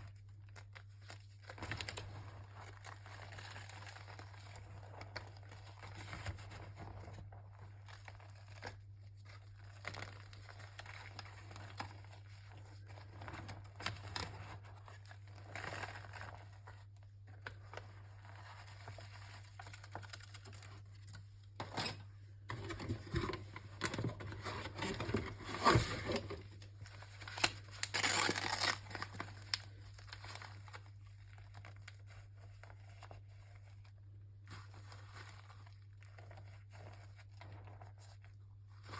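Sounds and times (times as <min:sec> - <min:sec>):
dry crinkling: 0:00.0 - 0:38.9
low electrical hum: 0:00.0 - 0:38.9.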